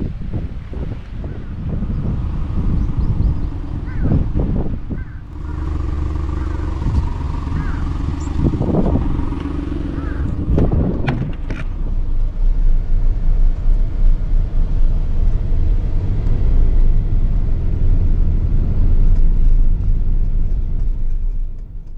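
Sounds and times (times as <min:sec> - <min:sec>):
low fluttering rumble: 0:00.0 - 0:21.9.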